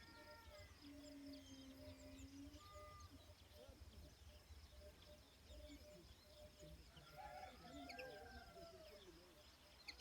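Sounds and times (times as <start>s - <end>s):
bird calls and chirps: 0.0s - 10.0s.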